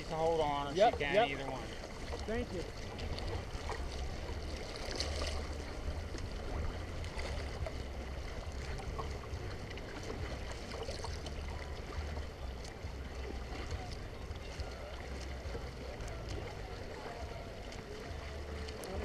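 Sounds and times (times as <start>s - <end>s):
low rumble: 0.0s - 19.0s
water sloshing around kayak: 0.0s - 19.0s.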